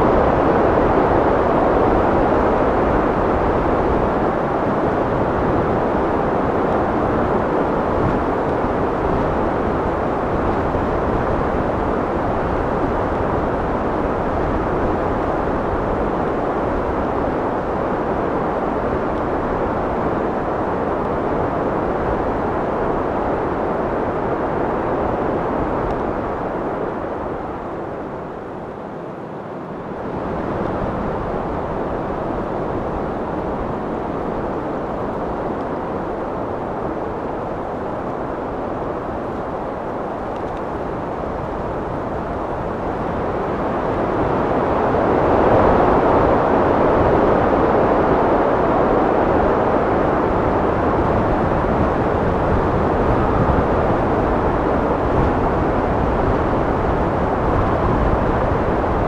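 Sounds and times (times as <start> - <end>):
wind blowing: 0.0 - 59.0.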